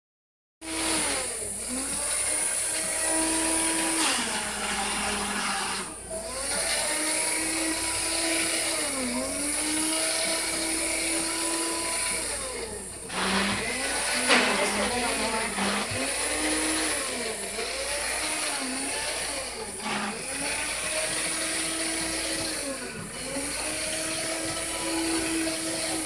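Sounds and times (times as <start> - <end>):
immersion blender motor hum: 0.6 - 26.0.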